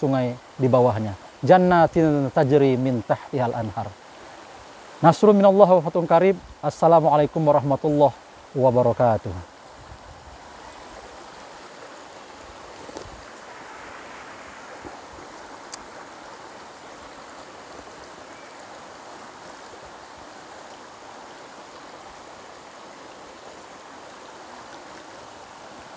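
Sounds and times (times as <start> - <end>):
stream running over stones: 0.0 - 25.9.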